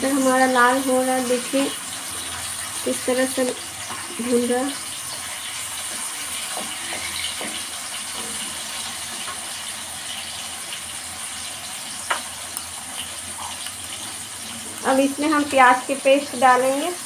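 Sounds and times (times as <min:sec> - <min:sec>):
tomato frying in hot oil: 0:00.0 - 0:17.0.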